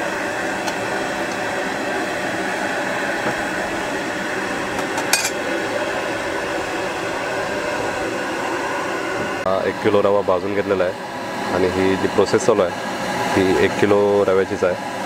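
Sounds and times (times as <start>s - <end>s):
stove hissing: 0.0s - 15.0s.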